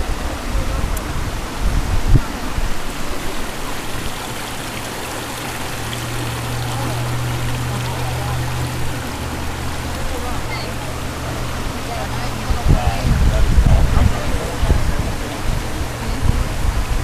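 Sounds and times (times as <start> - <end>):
river current rushing: 0.0 - 17.0.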